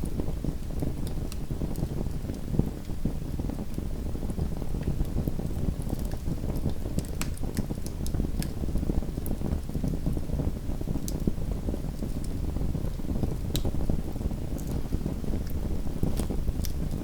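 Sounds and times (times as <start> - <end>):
fire pops and snaps: 0.0 - 3.0, 4.7 - 10.0, 10.9 - 17.0
wood fire crackling: 0.0 - 17.0.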